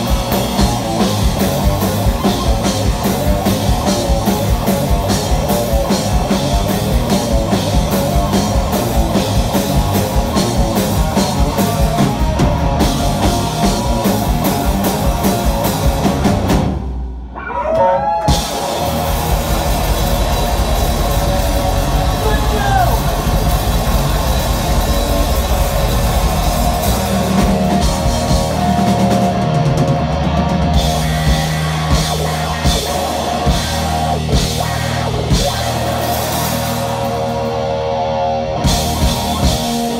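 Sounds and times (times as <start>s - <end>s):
bass guitar: 0.0s - 39.9s
distorted electric guitar: 0.0s - 39.9s
drum kit: 0.0s - 39.9s.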